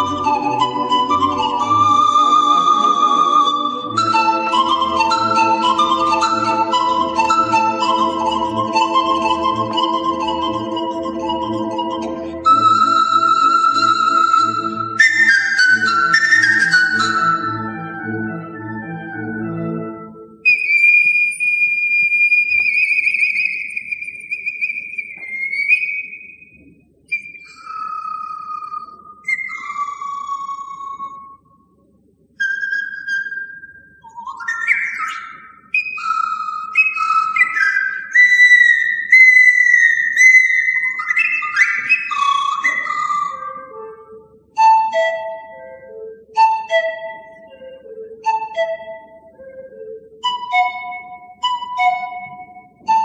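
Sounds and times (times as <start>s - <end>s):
pan flute melody: 0.0s - 53.0s.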